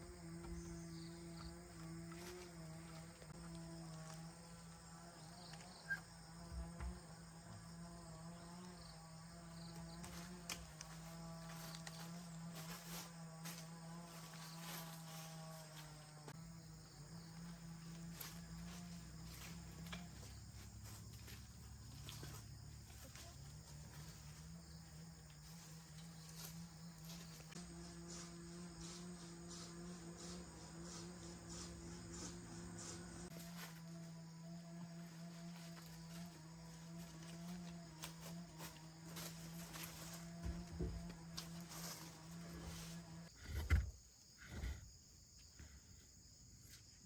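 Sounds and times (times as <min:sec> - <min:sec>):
crickets chirping: 0:00.0 - 0:47.0
faint insect drone: 0:00.0 - 0:47.0.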